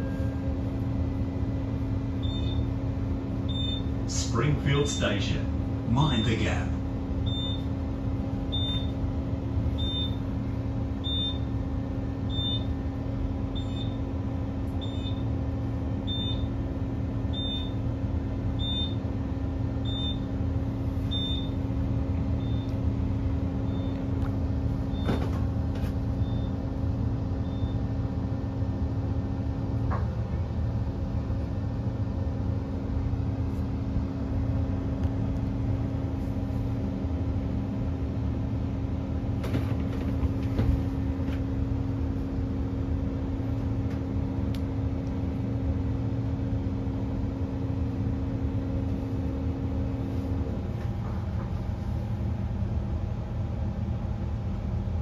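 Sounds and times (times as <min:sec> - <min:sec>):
train equipment hum: 0:00.0 - 0:55.0.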